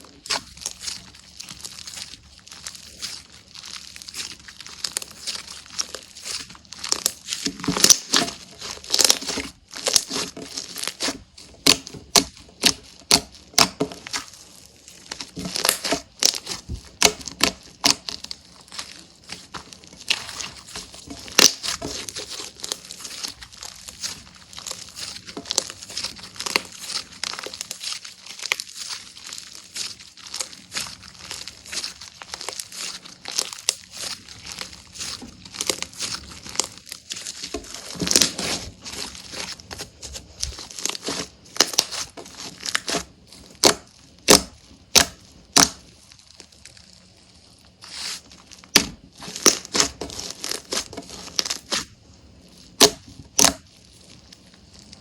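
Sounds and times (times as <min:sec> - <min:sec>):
hands squishing slime: 0:00.0 - 0:55.0.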